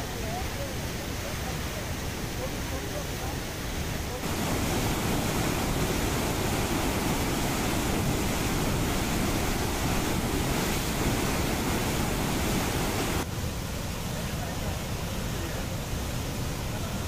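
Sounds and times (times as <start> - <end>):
floodwater rushing through sluice gate: 0.0 - 17.0.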